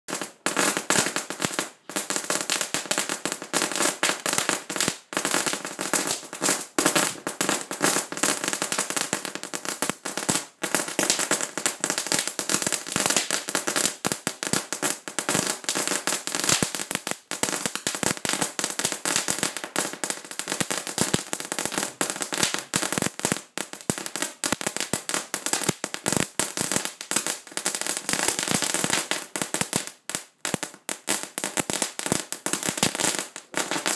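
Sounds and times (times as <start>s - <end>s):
firework crackling: 0.1s - 33.9s.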